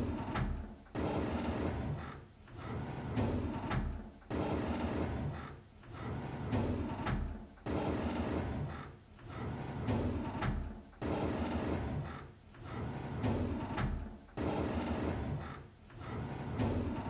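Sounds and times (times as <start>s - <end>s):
drawer sliding open: 0.1s - 8.7s, 9.3s - 17.0s.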